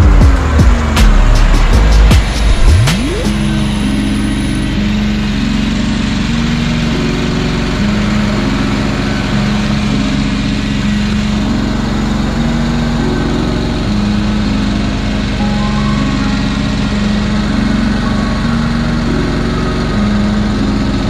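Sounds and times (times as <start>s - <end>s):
lawn mower engine running: 0.0s - 21.0s
low tones changing pitch in steps: 0.0s - 21.0s.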